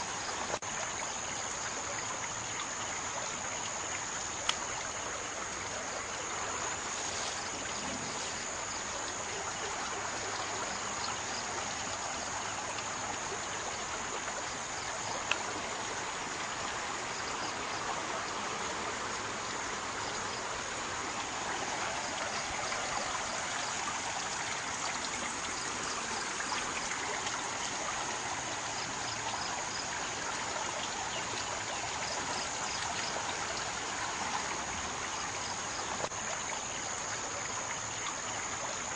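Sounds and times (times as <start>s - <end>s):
river floodwater rushing: 0.0s - 38.9s.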